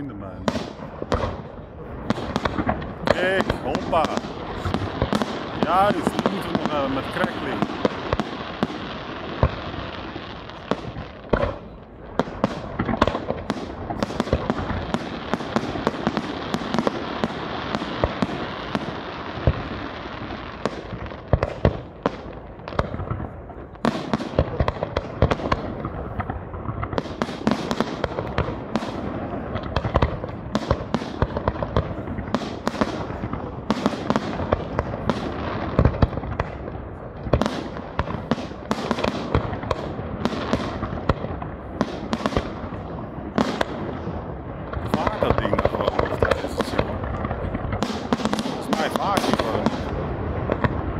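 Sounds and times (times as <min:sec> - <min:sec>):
firework bangs: 0:00.0 - 0:50.9
firework crackling: 0:00.0 - 0:50.9.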